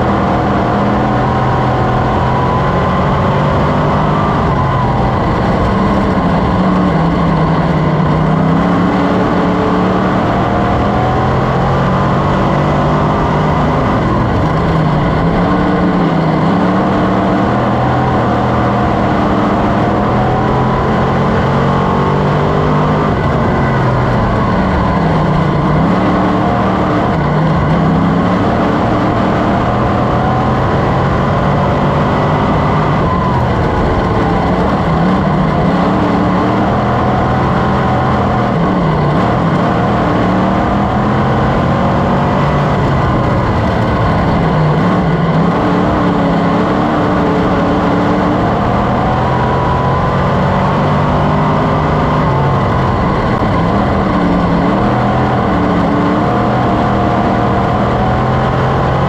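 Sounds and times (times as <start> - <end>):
race car engine revving: 0.0 - 59.0
wind and track noise: 0.0 - 59.0.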